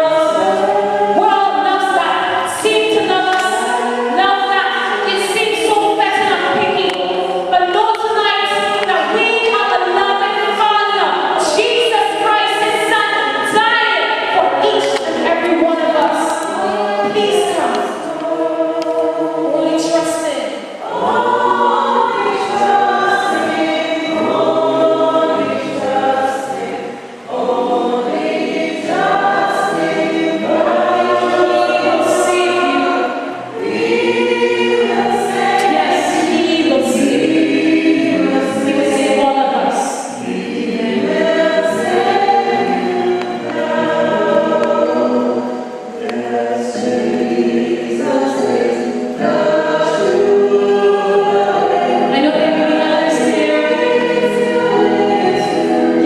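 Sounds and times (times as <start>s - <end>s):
group singing a hymn: 0.0s - 56.0s.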